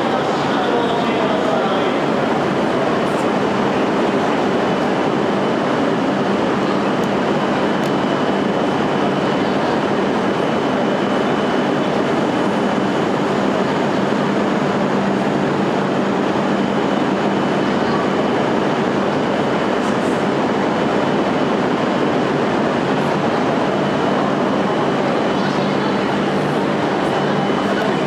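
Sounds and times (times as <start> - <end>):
train running noise: 0.0 - 28.0.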